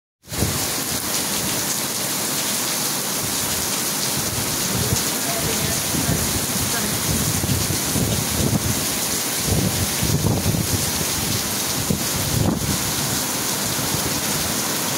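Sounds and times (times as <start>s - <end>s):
heavy rain on pavement and roof: 0.2s - 14.9s.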